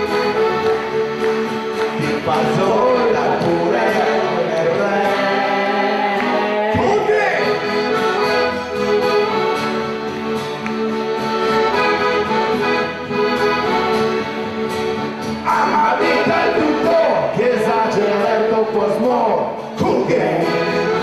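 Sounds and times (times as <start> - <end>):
accordion playing chords: 0.0 - 21.0
acoustic guitar strumming: 0.0 - 21.0.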